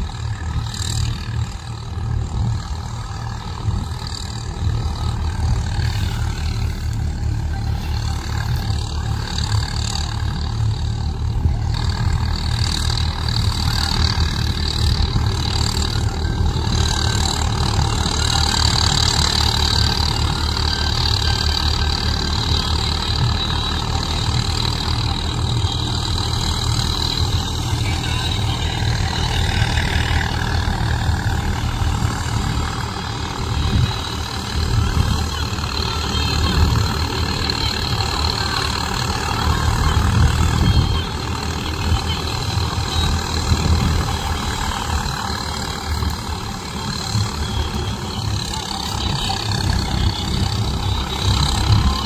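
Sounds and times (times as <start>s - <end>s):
reaper high whine: 0.0s - 52.0s
tractor diesel engine running: 0.0s - 52.0s.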